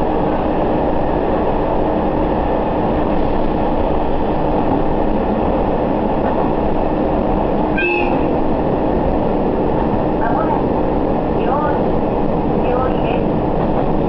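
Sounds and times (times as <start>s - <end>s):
diesel railcar running: 0.0s - 14.0s.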